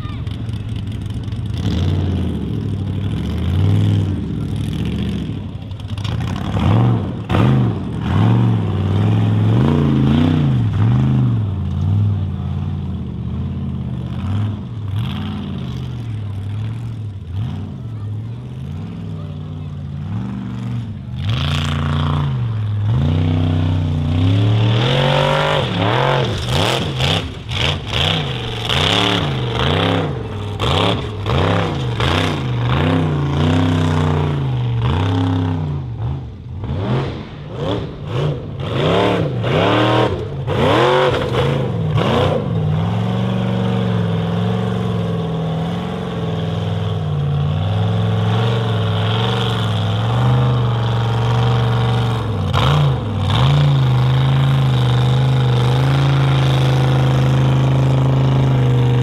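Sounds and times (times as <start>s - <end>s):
buggy engine revving: 0.0s - 59.0s.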